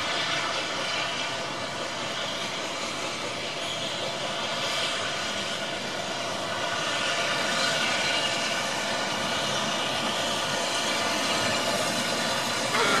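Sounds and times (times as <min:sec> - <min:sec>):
steam locomotive running slowly: 0:00.0 - 0:13.0.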